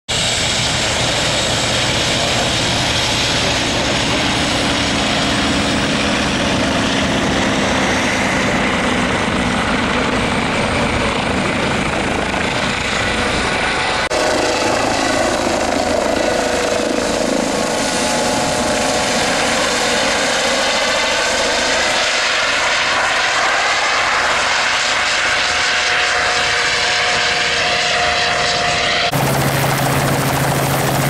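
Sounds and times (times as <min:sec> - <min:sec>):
helicopter turbine and rotor: 0:00.1 - 0:31.0
propeller planes droning: 0:00.1 - 0:31.0.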